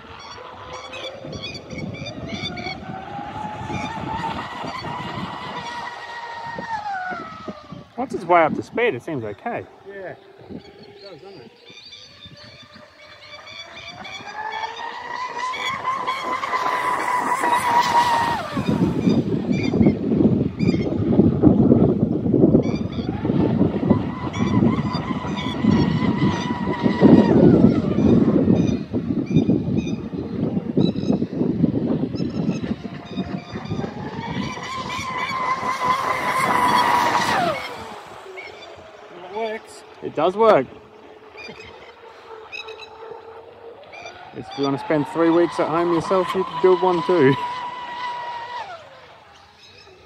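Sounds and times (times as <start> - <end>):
rc boat motor whine: 0.0 - 50.0.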